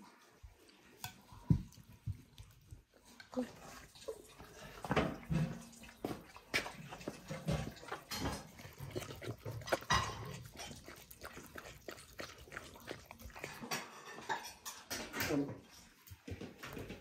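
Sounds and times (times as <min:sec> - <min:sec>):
dogs lapping and chewing: 0:00.0 - 0:17.0.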